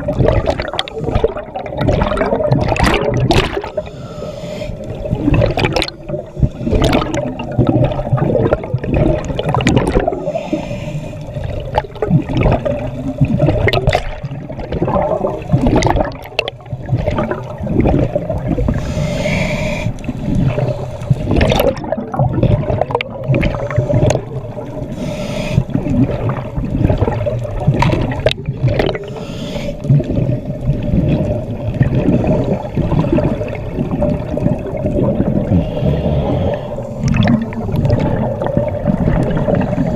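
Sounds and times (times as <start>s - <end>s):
regulator bubbles gurgling underwater: 0.0s - 39.9s.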